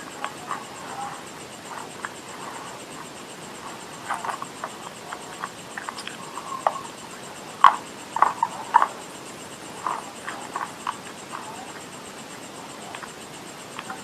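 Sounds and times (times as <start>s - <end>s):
mouth clicks: 0.0s - 14.0s
chewing and crunching clay: 0.1s - 6.9s, 7.5s - 12.0s.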